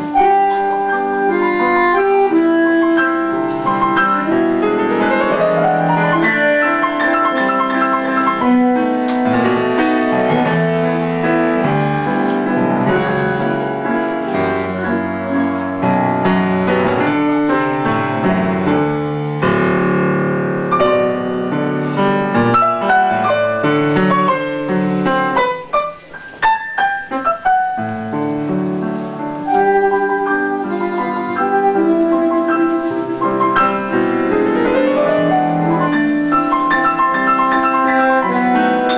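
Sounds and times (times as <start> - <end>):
piano and bandoneon tango: 0.0 - 38.9.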